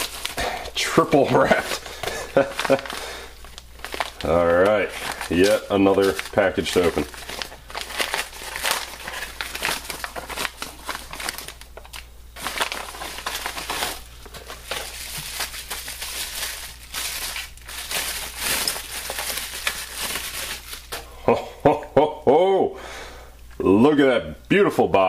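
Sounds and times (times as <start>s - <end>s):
paper envelope tearing: 0.0s - 21.0s
bubble-wrap crinkling: 0.0s - 21.2s.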